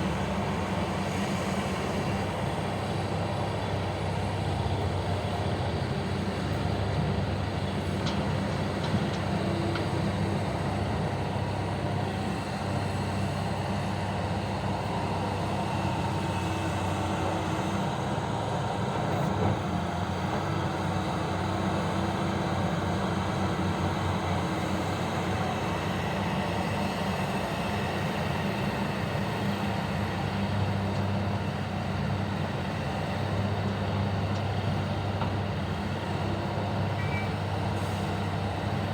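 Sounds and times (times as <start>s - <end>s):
diesel machinery engine drone: 0.0s - 38.9s.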